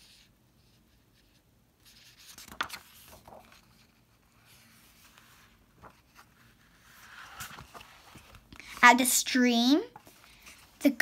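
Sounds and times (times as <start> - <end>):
paper page rustling: 0.0 - 9.0, 9.9 - 11.0.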